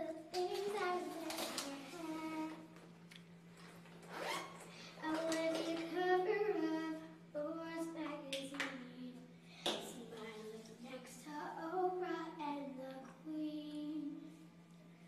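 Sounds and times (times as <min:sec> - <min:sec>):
girl singing wordless tune: 0:00.0 - 0:02.8, 0:04.9 - 0:14.6
low electrical hum: 0:00.0 - 0:15.0.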